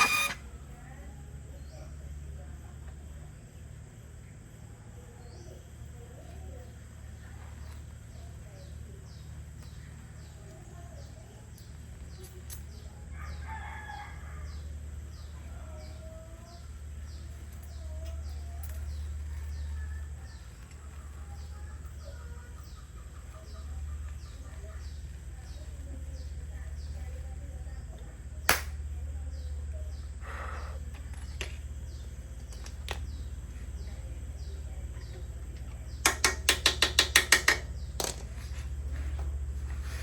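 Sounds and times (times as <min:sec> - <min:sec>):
birds chirping: 0:04.4 - 0:28.3, 0:28.9 - 0:40.0.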